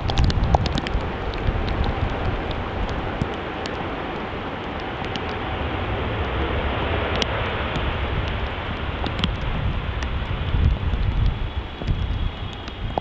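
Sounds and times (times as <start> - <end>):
jet engines rumbling: 0.0 - 13.0
rain and wind on microphone: 0.0 - 13.0
ticks of raindrops: 0.0 - 13.0.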